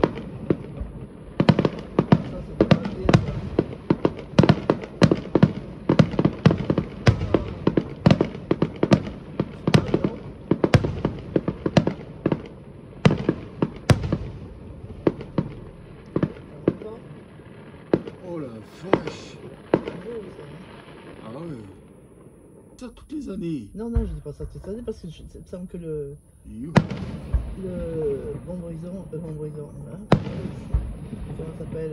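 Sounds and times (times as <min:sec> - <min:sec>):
fireworks bangs: 0:00.0 - 0:31.9.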